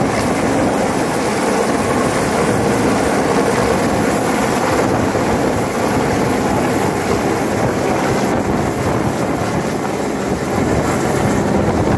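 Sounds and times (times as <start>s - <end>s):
helicopter rotor and turbine: 0.0s - 11.9s
wind buffeting microphone: 0.0s - 11.9s.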